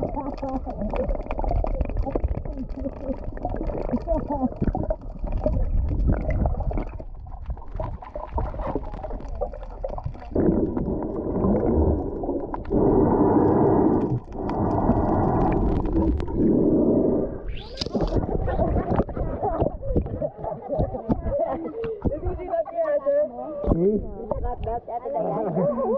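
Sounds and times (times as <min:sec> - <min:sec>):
water gurgling underwater: 0:00.0 - 0:22.6.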